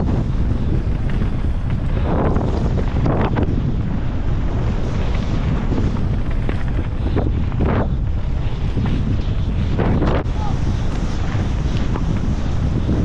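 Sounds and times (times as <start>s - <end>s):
mountain bike trail noise: 0.0s - 13.0s
wind buffeting microphone: 0.0s - 13.0s.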